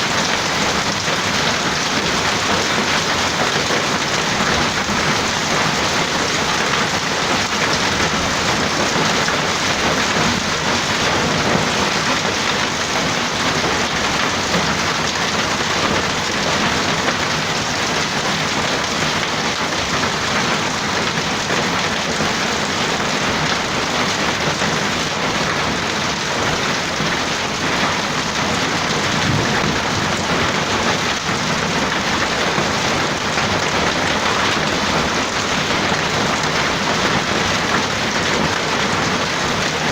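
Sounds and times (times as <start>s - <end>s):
hail and rain pelting: 0.0s - 39.9s.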